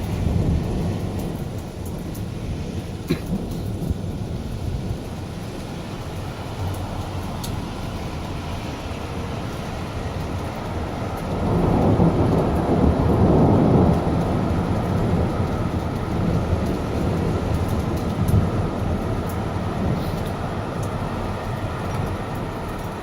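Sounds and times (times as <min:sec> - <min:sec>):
rolling thunder: 0:00.0 - 0:07.9, 0:09.7 - 0:23.0.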